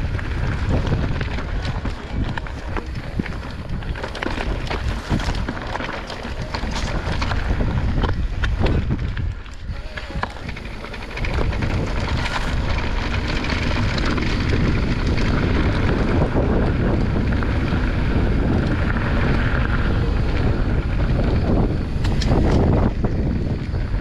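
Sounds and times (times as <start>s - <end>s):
bike rattling on trail: 0.0s - 24.0s
wind rushing over microphone: 0.0s - 24.0s.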